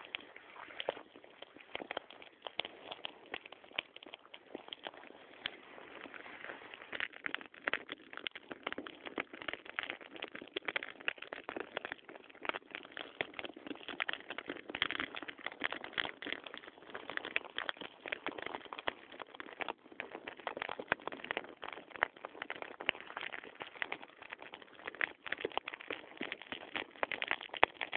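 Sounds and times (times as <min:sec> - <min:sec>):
grass crackling as it burns: 0:00.0 - 0:27.9.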